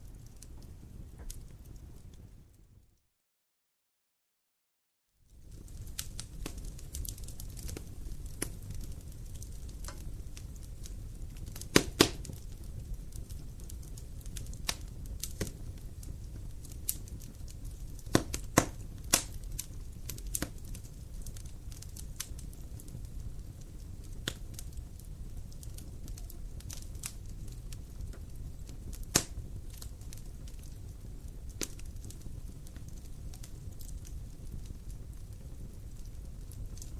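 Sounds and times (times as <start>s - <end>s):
wood fire crackling: 0.0s - 3.0s, 5.2s - 36.9s.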